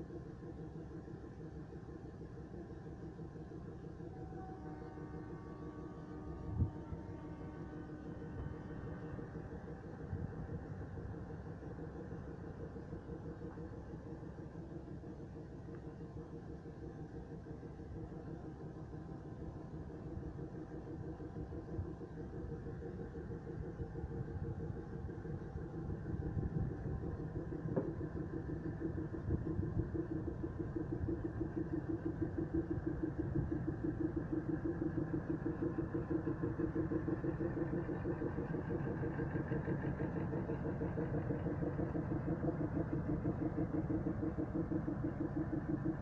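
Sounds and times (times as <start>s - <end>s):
diesel train engine pulsing: 0.0s - 46.0s.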